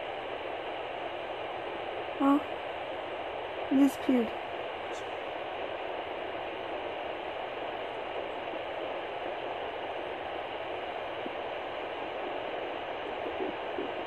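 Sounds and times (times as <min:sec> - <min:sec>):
doppler speaker static hiss: 0:00.0 - 0:14.0.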